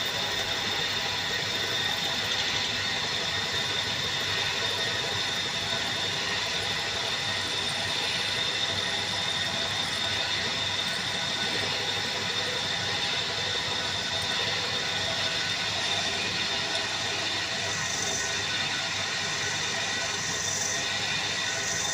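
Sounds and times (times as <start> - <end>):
drilling machine whining: 0.0 - 21.9.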